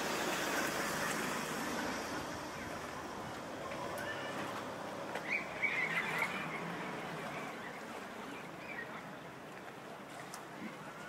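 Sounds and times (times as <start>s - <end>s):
outdoor town ambience: 0.0s - 11.0s.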